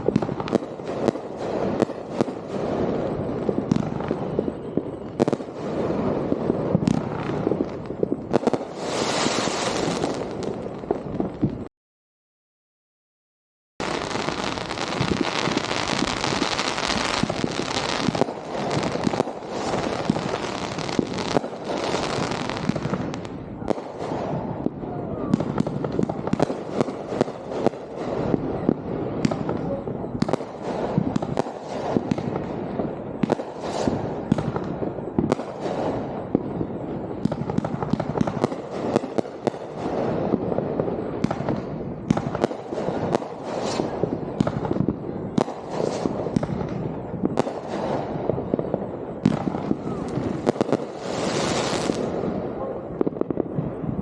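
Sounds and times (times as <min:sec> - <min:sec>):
fireworks crackling and banging: 0:00.0 - 0:11.7, 0:13.8 - 0:54.0.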